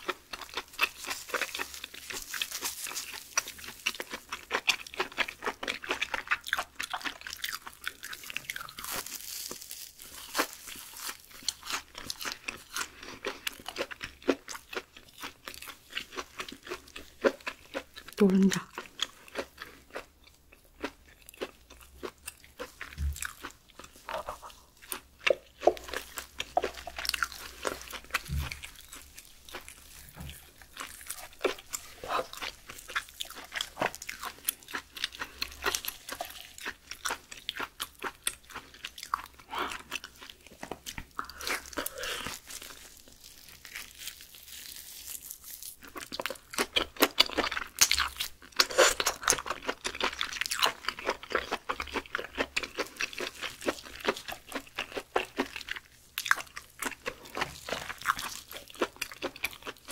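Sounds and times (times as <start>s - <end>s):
wet chewing and mouth sounds: 0.0s - 59.9s.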